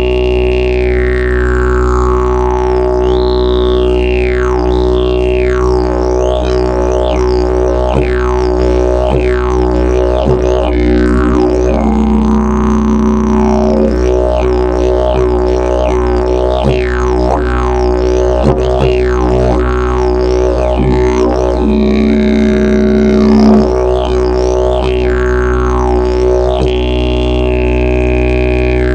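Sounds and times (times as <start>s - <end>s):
didgeridoo drone: 0.0s - 28.9s.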